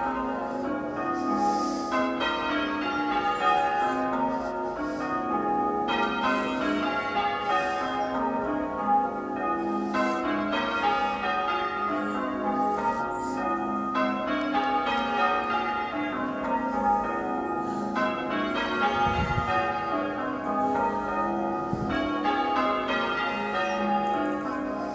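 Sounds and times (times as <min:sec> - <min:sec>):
church bells change ringing: 0:00.0 - 0:24.9.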